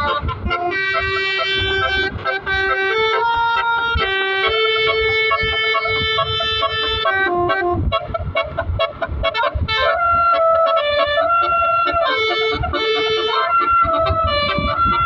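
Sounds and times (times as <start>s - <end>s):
bus multi-tone horn playing tune: 0.0s - 15.0s.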